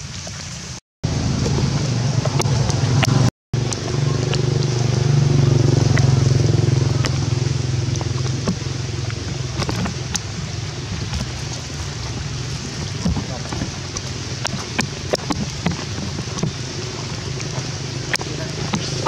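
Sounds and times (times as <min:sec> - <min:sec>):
raindrops ticking: 0:00.0 - 0:19.0
low motor hum: 0:01.0 - 0:19.0.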